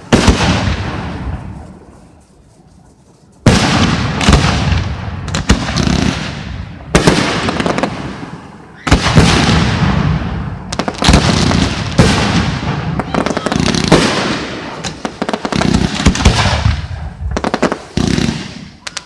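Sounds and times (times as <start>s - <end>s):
fireworks bursting: 0.0s - 2.2s, 3.4s - 19.0s.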